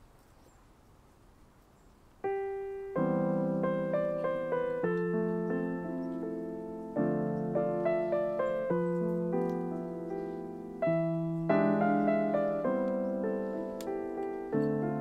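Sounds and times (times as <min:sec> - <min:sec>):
solo piano music: 0:02.0 - 0:15.0.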